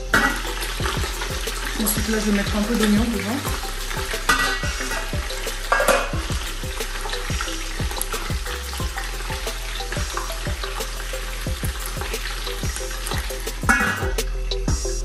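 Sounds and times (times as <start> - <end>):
food sizzling in hot oil: 0.0 - 14.3
thumping music beat: 0.0 - 15.0.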